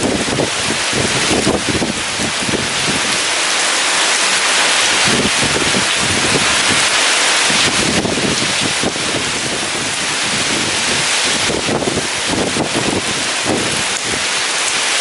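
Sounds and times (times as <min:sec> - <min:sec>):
wind buffeting the microphone: 0:00.0 - 0:14.9
heavy rain pouring: 0:00.0 - 0:15.0.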